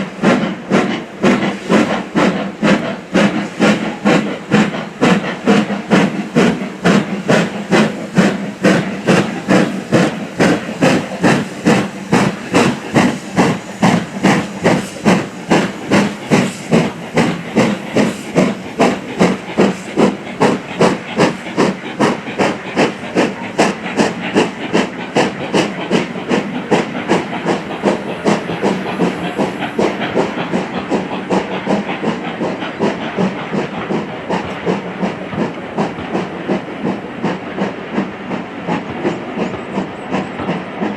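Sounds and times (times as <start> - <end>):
steam hissing: 0.0 - 40.9
steam locomotive chuffing: 0.0 - 40.9.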